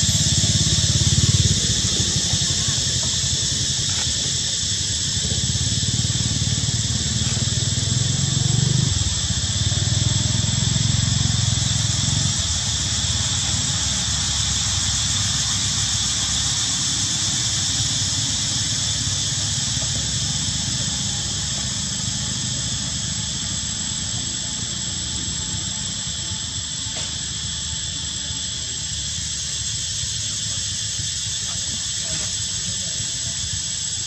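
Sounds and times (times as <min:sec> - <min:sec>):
high-pitched hiss: 0:00.0 - 0:34.0.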